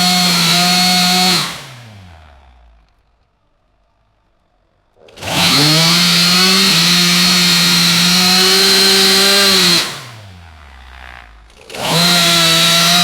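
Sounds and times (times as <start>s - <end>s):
chainsaw revving: 0.0s - 3.0s, 5.0s - 13.0s.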